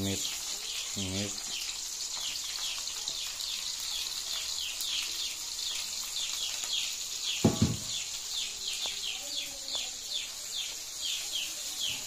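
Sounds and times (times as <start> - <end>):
bird chirping: 0.0 - 12.0
onions sizzling in oil: 0.0 - 12.0.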